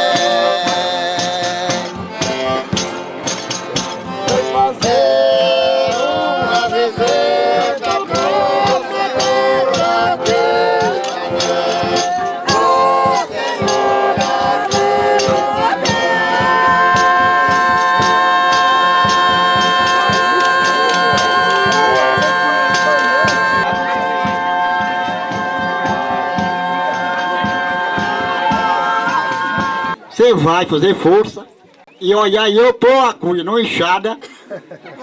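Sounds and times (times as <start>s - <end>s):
sharp percussion strokes: 0.0s - 30.0s
voices singing: 0.0s - 30.1s.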